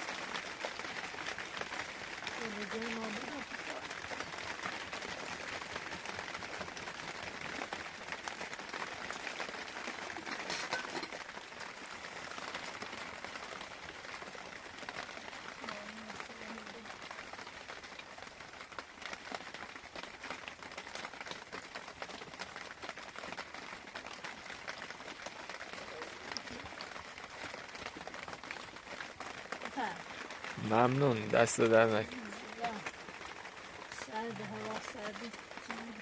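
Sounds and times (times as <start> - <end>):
rain pattering: 0.0 - 36.0.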